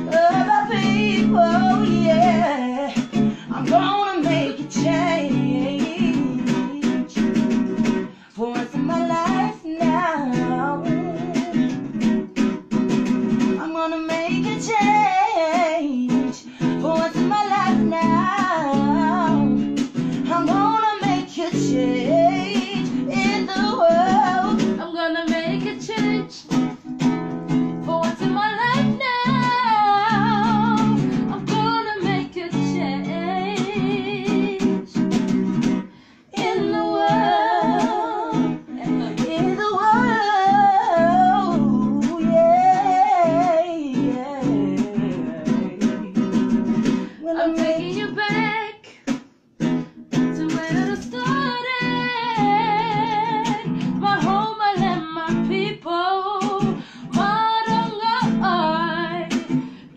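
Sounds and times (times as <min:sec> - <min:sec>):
woman singing with vibrato: 0:00.0 - 0:11.8, 0:13.4 - 0:26.9, 0:27.7 - 0:35.4, 0:36.2 - 0:49.1, 0:50.1 - 0:59.8
guitar: 0:00.0 - 0:59.9.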